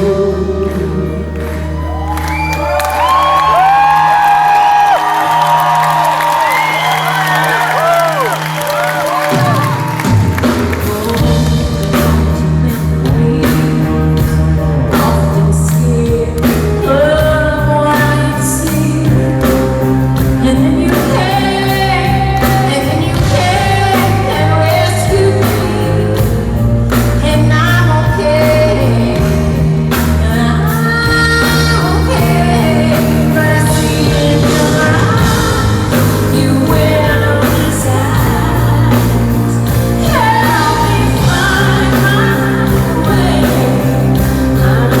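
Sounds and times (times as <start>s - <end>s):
live pop rock band: 0.0s - 45.0s
woman singing: 0.0s - 45.0s.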